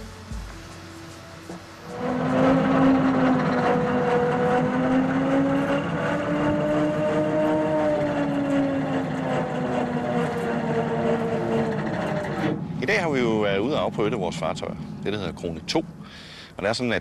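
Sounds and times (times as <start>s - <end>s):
motor humming: 1.5s - 16.0s.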